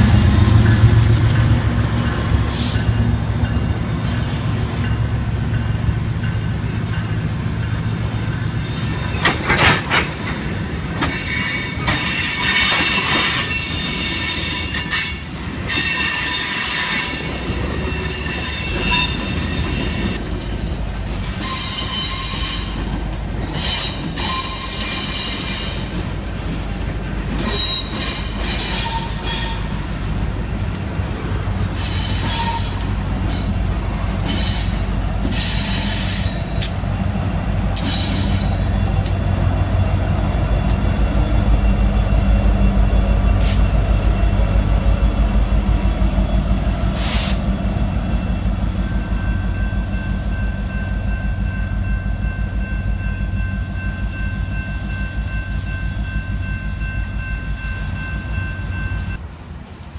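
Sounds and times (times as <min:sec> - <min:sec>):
wheels squealing against rails: 0:00.0 - 0:06.4, 0:07.6 - 0:20.2, 0:21.2 - 0:26.1, 0:27.3 - 0:29.9, 0:31.6 - 0:36.9, 0:37.7 - 0:59.2
diesel locomotives rumbling by: 0:00.0 - 0:59.9.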